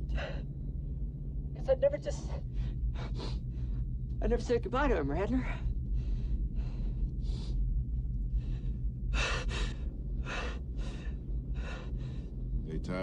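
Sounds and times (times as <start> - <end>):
low aircraft cabin drone: 0.0 - 13.0.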